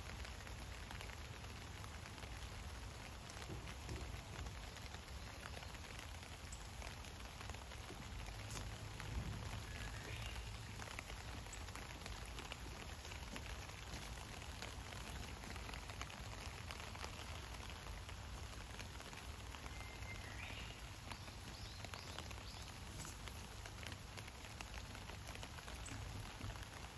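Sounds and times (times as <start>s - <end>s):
light rain pattering: 0.0s - 26.9s.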